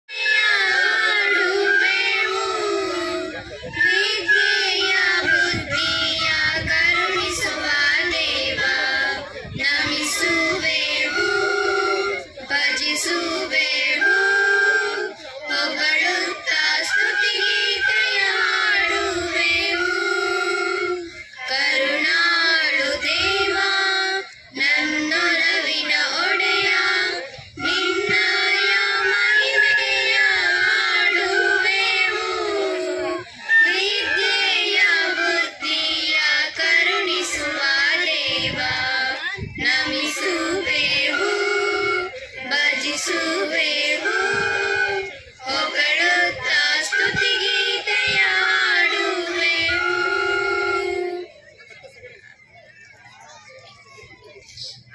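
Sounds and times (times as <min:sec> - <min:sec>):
recorder ensemble playing: 0:00.1 - 0:52.4.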